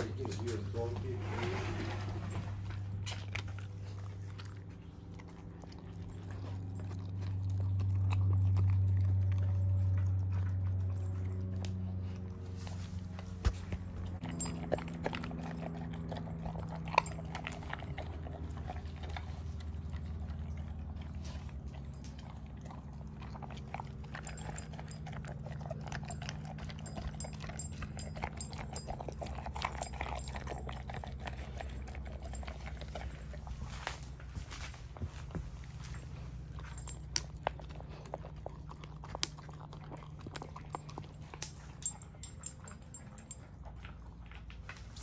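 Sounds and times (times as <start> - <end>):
dogs chewing and crunching food: 0.0 - 45.0.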